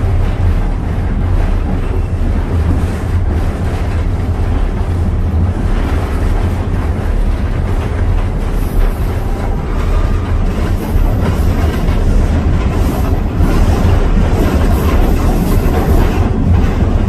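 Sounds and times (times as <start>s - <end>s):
train rolling along track: 0.0s - 17.0s
wind noise: 0.0s - 17.0s.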